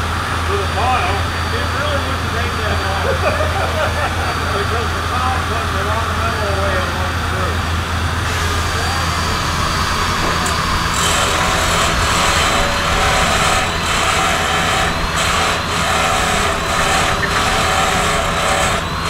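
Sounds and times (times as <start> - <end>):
sawmill machinery running: 0.0 - 19.0
thin high whine: 0.0 - 19.0.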